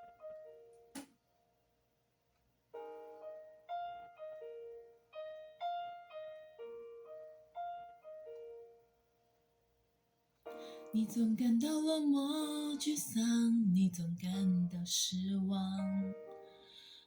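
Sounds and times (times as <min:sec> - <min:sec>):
slow piano notes: 0:00.0 - 0:01.0, 0:02.7 - 0:09.5, 0:10.4 - 0:17.0.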